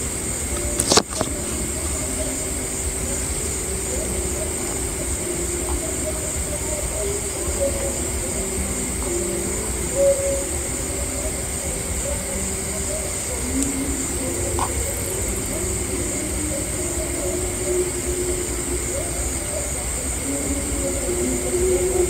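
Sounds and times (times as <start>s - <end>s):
faint low calls: 0.0s - 22.0s
high insect drone: 0.0s - 22.0s.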